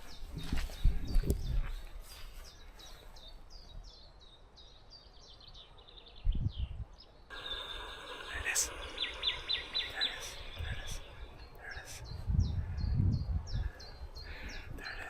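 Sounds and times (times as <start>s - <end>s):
small songbird singing: 0.0s - 15.0s.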